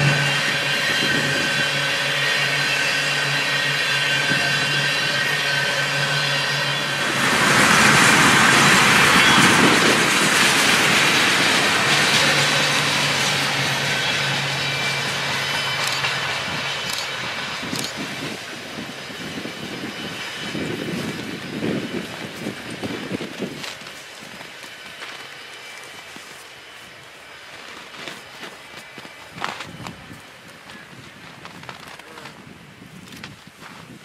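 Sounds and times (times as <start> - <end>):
freight train wheels rattling: 0.0 - 34.0.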